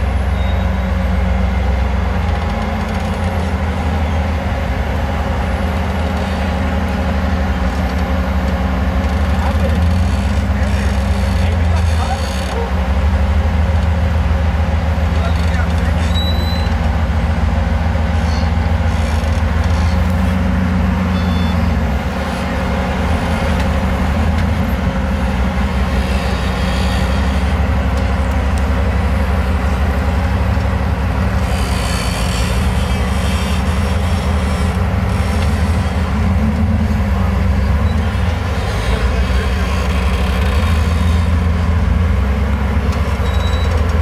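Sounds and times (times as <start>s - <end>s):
vehicle engine deep rumble: 0.0s - 44.0s.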